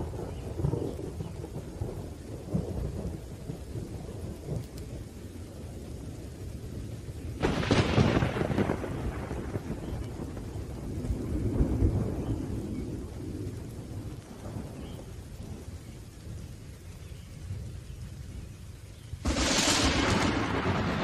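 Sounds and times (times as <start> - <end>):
rolling thunder: 0.0 - 18.6, 19.2 - 21.0
rain hiss: 0.0 - 21.0.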